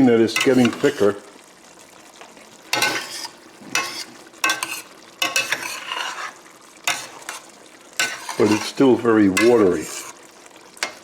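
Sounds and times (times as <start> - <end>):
faint sizzle: 0.0 - 11.0
spoon stirring sauce in a pan: 0.3 - 1.3, 2.2 - 11.0.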